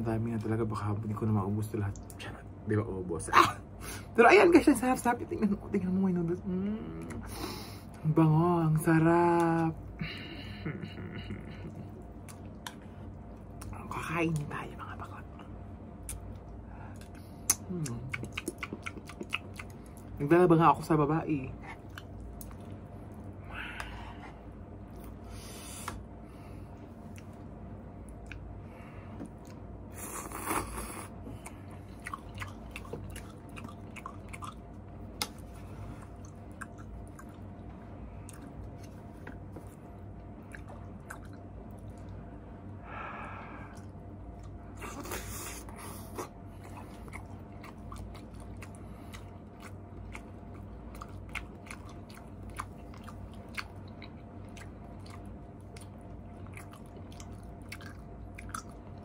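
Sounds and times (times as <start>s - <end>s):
steady low hum: 0.0s - 59.0s
chewing and wet mouth sounds: 8.8s - 59.0s.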